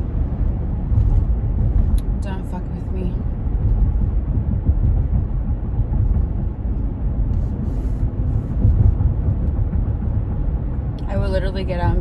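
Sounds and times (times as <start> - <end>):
road and engine rumble in cab: 0.0 - 12.0.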